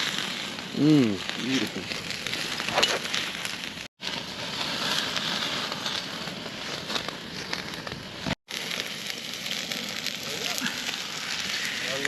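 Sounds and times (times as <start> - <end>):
food sizzling: 0.0 - 12.0
wood crackling and popping: 0.0 - 12.0.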